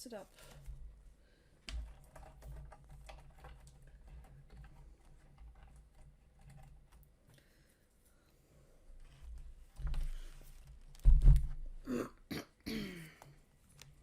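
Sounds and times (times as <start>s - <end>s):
cables rustling: 0.0s - 11.8s.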